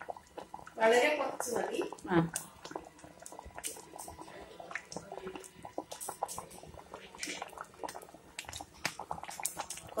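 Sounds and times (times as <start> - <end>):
thick liquid boiling in a pot: 0.0 - 10.0.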